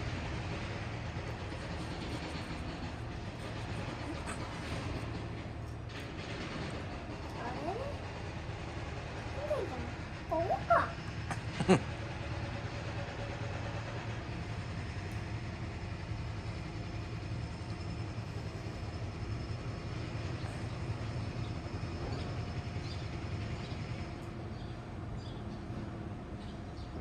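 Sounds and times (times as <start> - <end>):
train rumbling: 0.0 - 27.0.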